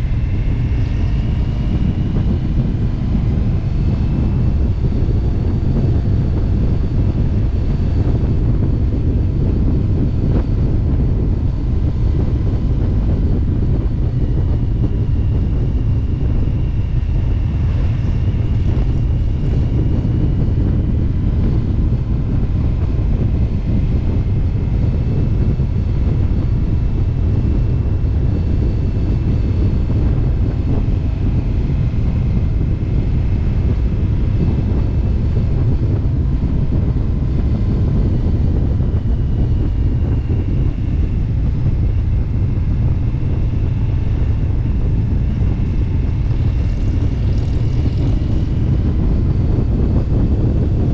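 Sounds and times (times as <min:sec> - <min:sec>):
motorcycle engine cruising: 0:00.0 - 0:21.7, 0:22.6 - 0:50.9
wind buffeting microphone: 0:00.0 - 0:50.9.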